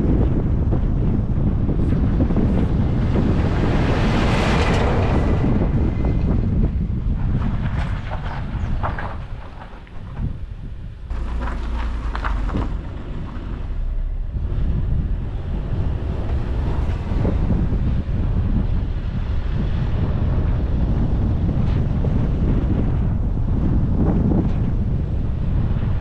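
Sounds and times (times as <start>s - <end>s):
road and engine rumble: 0.0s - 26.0s
wind buffeting microphone: 0.0s - 26.0s.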